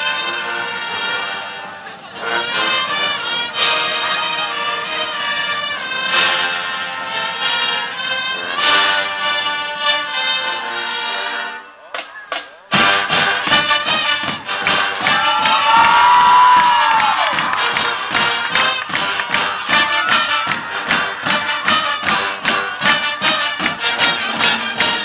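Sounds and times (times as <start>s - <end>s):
brass section playing chords: 0.0s - 11.9s, 12.7s - 16.2s, 16.8s - 25.0s.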